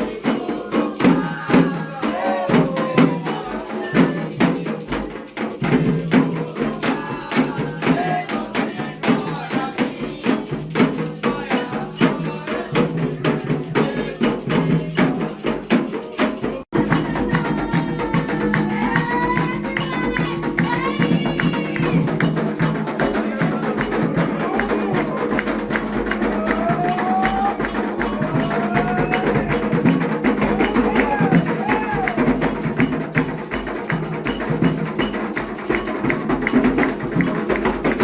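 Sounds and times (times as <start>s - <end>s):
hand drums: 0.0s - 38.0s
voices singing: 0.0s - 38.0s.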